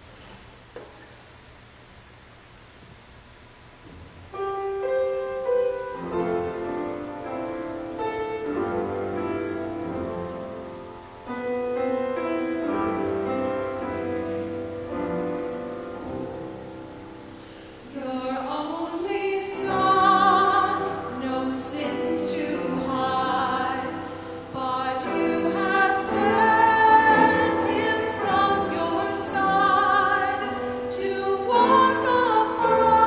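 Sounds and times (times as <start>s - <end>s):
grand piano playing a hymn: 3.9s - 33.0s.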